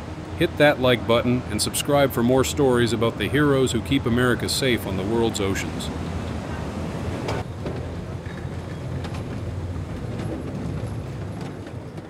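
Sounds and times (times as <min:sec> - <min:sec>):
low machinery rumble: 0:00.0 - 0:12.0.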